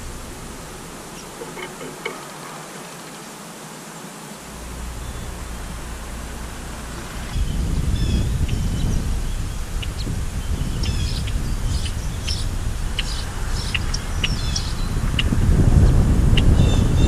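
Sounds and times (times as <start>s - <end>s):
wind on microphone: 0.0s - 2.2s, 4.5s - 17.0s
small birds twittering: 0.0s - 3.4s, 4.6s - 17.0s.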